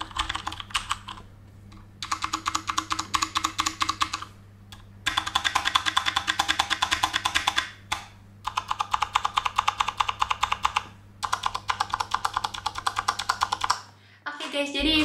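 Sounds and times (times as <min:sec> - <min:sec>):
fast typing on mechanical keyboard: 0:00.0 - 0:01.2, 0:02.0 - 0:04.3, 0:05.0 - 0:13.8.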